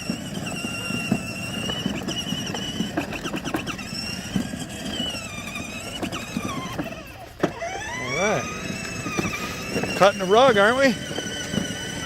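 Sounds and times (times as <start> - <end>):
electric motor whine: 0.0 - 12.0
plastic wheels rumbling on concrete: 0.0 - 12.0.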